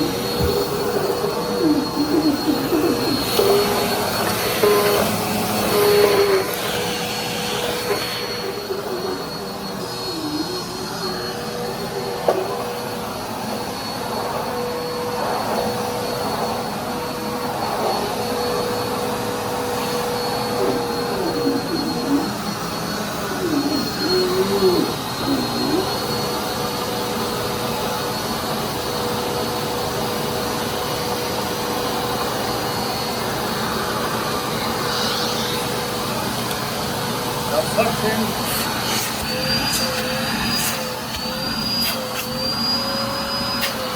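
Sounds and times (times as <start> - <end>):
vacuum cleaner whining: 0.0 - 43.9.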